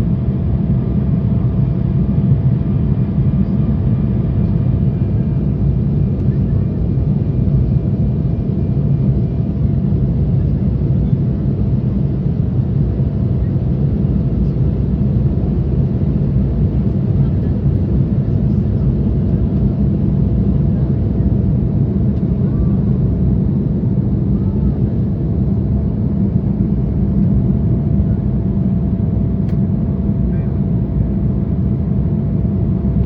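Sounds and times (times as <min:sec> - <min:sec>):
jet engine and airflow rumble: 0:00.0 - 0:33.0.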